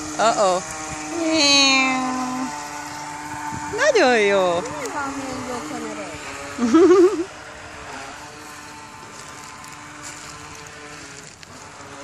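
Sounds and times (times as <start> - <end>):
toy boat motor running: 0.0 - 12.0.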